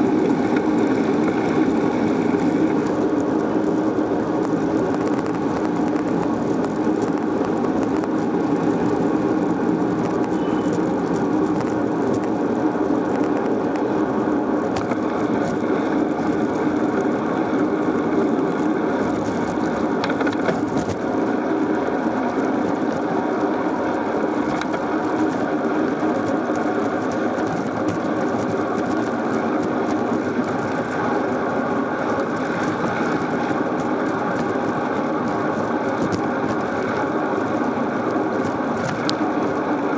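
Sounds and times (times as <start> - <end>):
bicycle tyre noise: 0.0 - 39.9.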